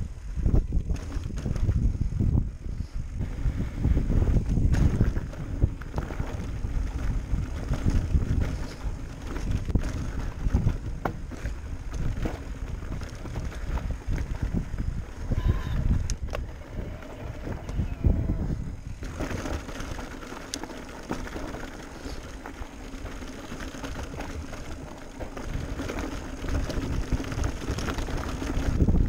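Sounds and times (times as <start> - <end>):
bike rolling on dirt trail: 0.0 - 29.0
wind buffeting microphone: 0.0 - 29.0
bike clicks and rattles: 0.2 - 29.0.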